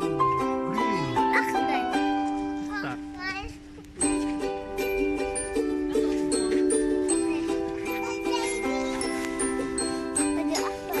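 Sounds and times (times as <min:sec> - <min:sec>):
music of held notes: 0:00.0 - 0:11.0.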